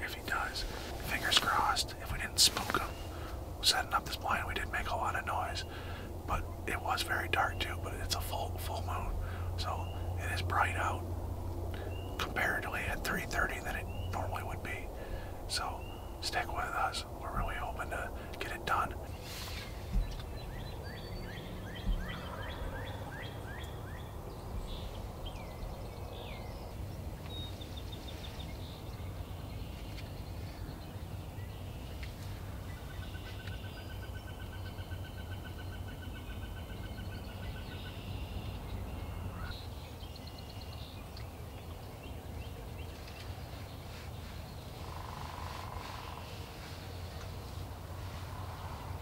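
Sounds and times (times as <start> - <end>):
birds chirping and trilling: 0.0 - 49.0
steady low rumble: 0.0 - 49.0.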